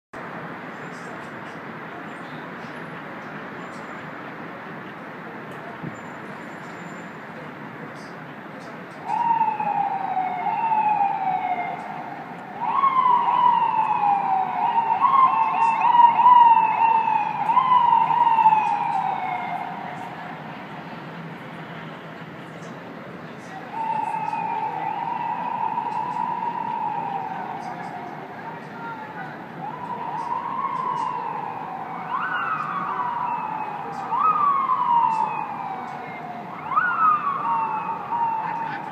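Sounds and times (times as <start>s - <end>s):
city noise: 0.1s - 38.9s
emergency vehicle sirens: 0.2s - 38.9s.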